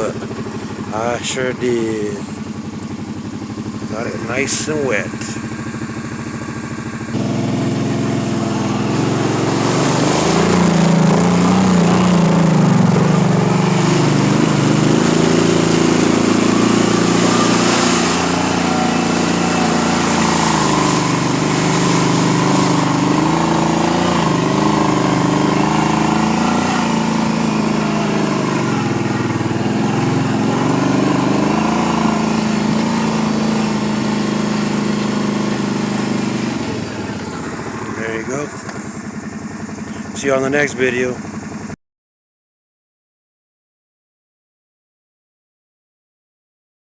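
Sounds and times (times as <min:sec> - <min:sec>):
atv engine revving: 0:00.0 - 0:41.8.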